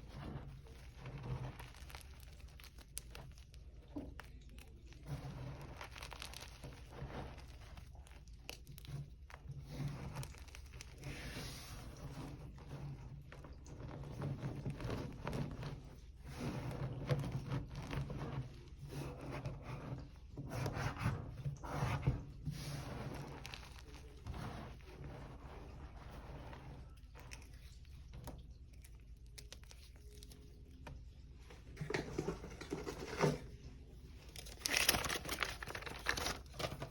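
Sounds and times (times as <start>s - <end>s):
chalk crunching: 0.0s - 31.0s.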